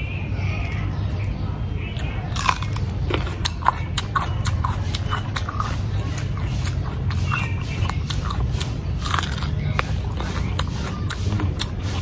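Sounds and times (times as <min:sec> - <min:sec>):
steady low hum: 0:00.0 - 0:12.0
crunching raw cucumber: 0:02.0 - 0:12.0.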